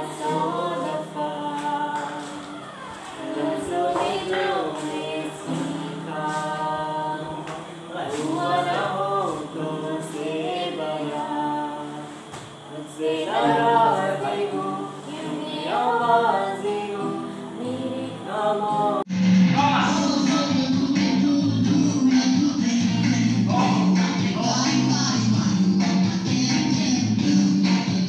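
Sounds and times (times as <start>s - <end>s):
man and woman singing: 0.0s - 27.9s
acoustic guitar: 0.0s - 28.0s.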